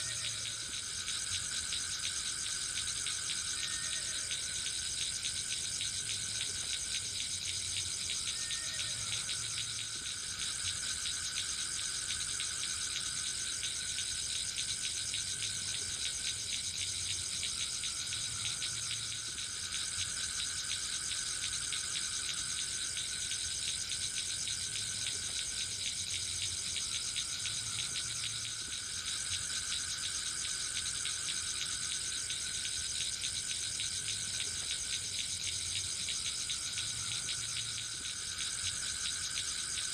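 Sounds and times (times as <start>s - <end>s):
insects trilling in chorus: 0.0s - 39.9s.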